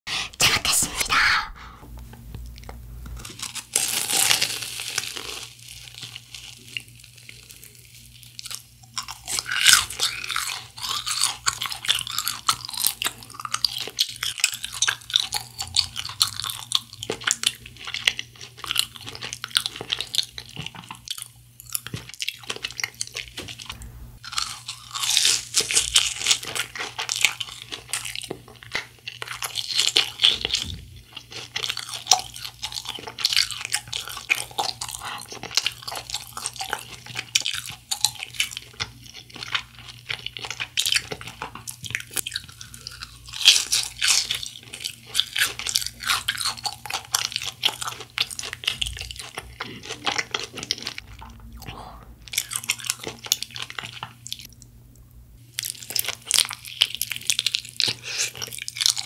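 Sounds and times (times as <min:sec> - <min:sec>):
crunching and chewing crisp food: 0:02.4 - 0:54.7, 0:55.4 - 0:59.0.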